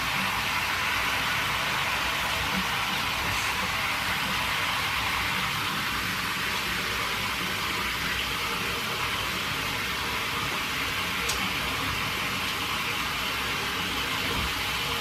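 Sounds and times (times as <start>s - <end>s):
shower water running into bathtub: 0.0s - 15.0s.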